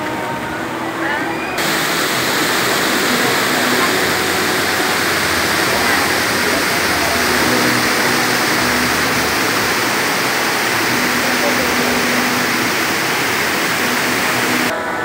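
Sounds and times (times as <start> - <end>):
waterfall pouring: 1.6 - 14.7.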